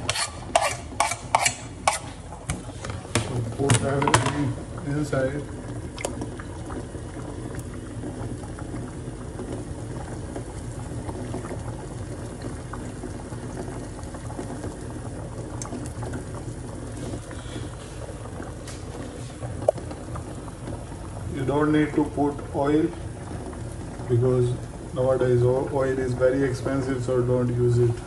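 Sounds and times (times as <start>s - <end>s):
water bubbling in a pot: 0.0s - 28.0s.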